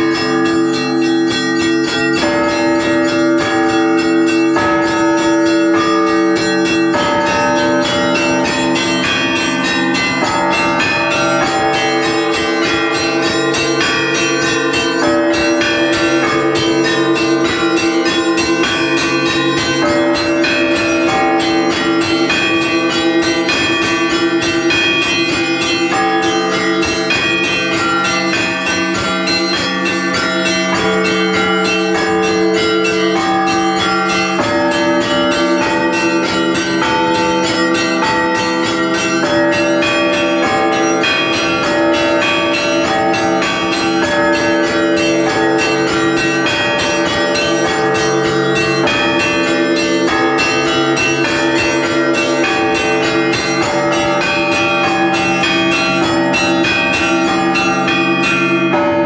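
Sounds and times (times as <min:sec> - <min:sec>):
hum of large bells: 0:00.0 - 0:59.0
small bells struck rapidly: 0:00.0 - 0:59.0.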